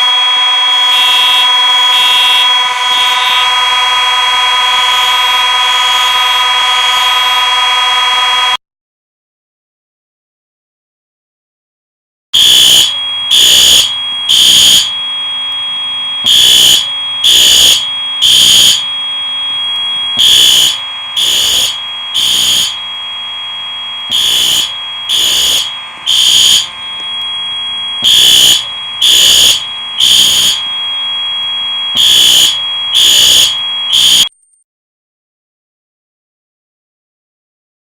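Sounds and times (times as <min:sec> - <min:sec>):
fire alarm horn blasts: 0:00.0 - 0:08.6, 0:12.4 - 0:34.3
steady high alarm tone: 0:00.0 - 0:08.6, 0:12.4 - 0:34.4.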